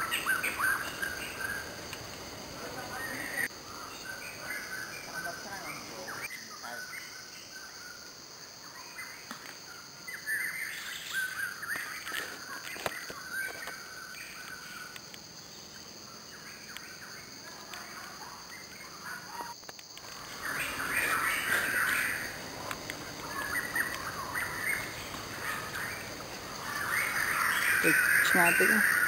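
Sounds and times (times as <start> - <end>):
birds chirping: 0.0 - 7.9, 10.1 - 29.0
high insect drone: 0.0 - 29.0.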